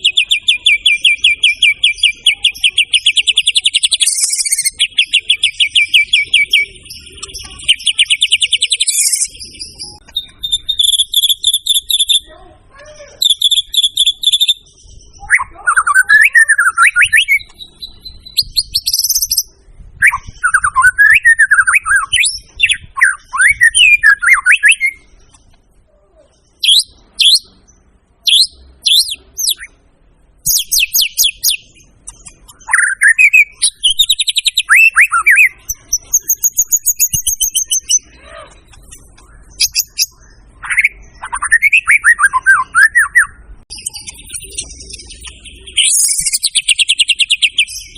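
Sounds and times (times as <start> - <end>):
bird singing varied whistles and trills: 0.0 - 12.3, 13.2 - 25.6, 26.3 - 29.8, 30.4 - 47.9.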